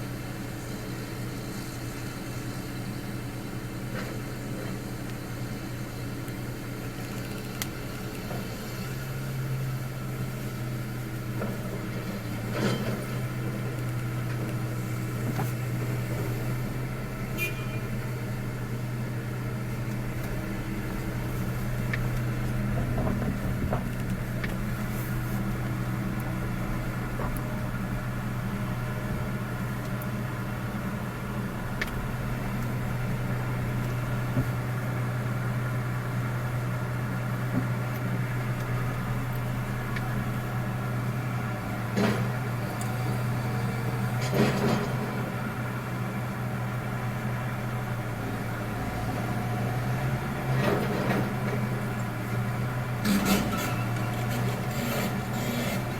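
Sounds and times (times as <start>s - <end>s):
vehicle engine humming: 0.0s - 55.9s.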